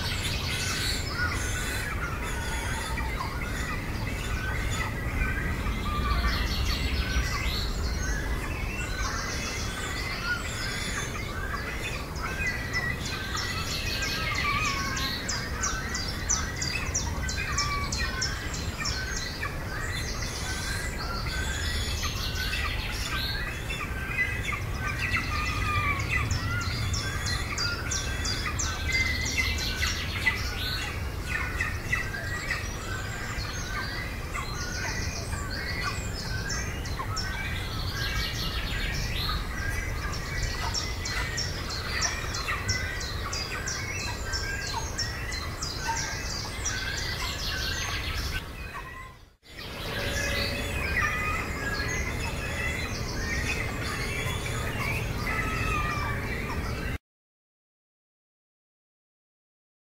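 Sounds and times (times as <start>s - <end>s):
birds chirping and squeaking: 0.0s - 57.0s.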